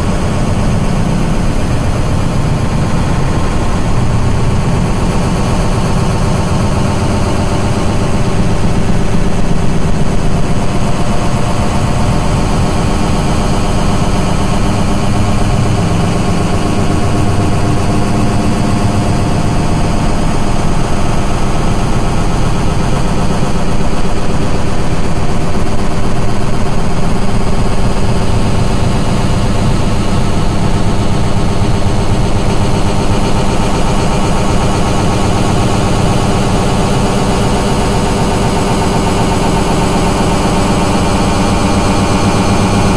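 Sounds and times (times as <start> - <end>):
distorted electronic noise drone: 0.0 - 42.9.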